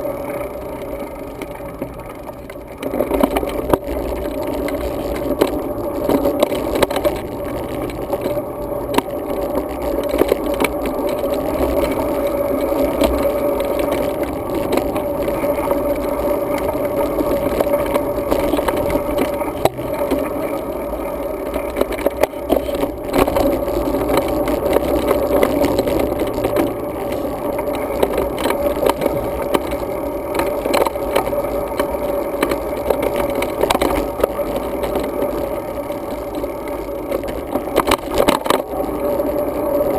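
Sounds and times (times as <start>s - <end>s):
bicycle rattles and clicks: 0.0s - 39.9s
bicycle tyre noise on road: 0.0s - 39.9s.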